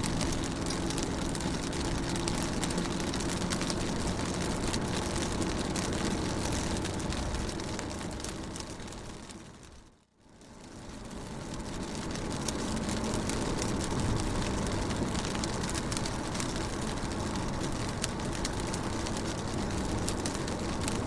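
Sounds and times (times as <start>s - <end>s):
rain on car windows and roof: 0.0s - 21.0s.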